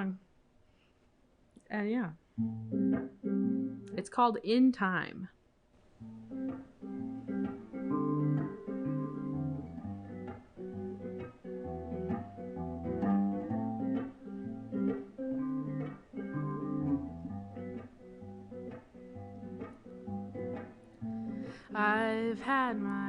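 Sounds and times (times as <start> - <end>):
guitar strumming chords: 2.4 - 4.0, 6.0 - 23.0.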